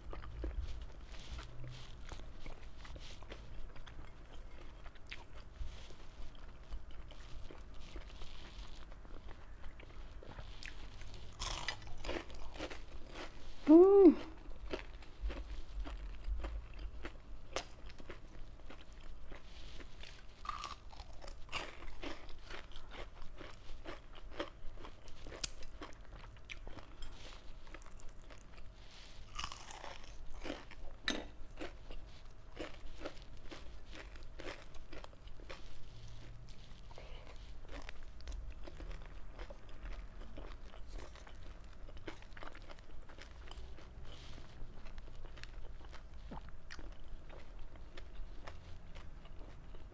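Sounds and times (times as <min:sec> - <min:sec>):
person chewing crunchy food: 0:00.0 - 0:49.9.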